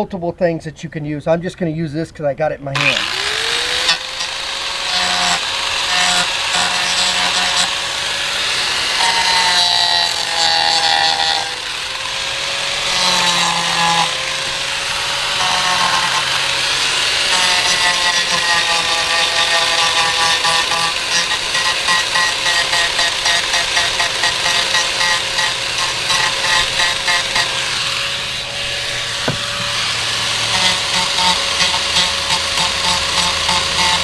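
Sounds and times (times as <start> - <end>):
power cutting tool whining: 2.8 - 34.0.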